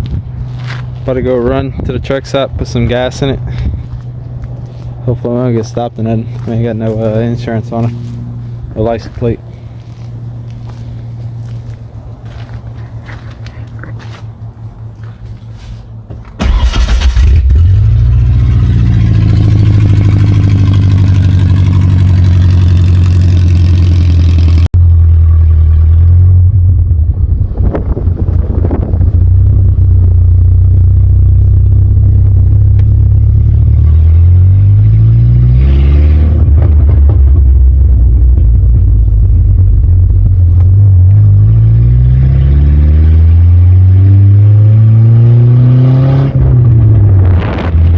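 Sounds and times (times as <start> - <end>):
truck engine with open exhaust: 0.0 - 47.9.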